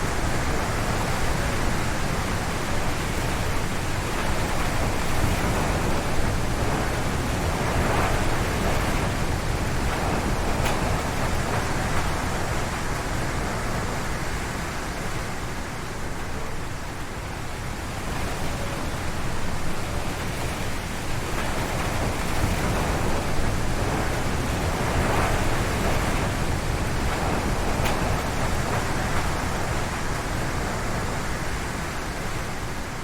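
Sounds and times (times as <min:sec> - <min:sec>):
strong wind gusting through trees: 0:00.0 - 0:33.0.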